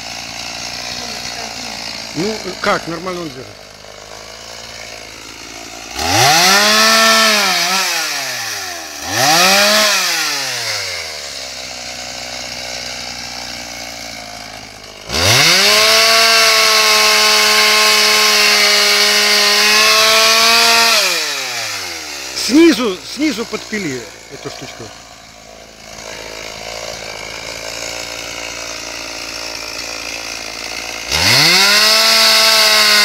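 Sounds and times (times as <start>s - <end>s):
chainsaw idling and revving: 0.0s - 33.0s.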